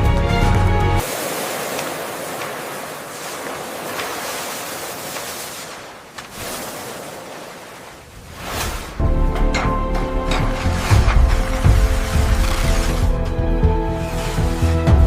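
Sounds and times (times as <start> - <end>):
ocean waves surf: 0.0 - 15.0.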